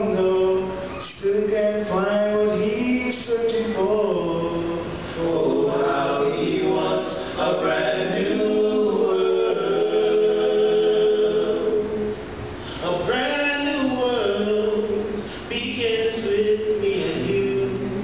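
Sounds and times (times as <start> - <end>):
male vocal group singing in harmony: 0.0 - 18.0.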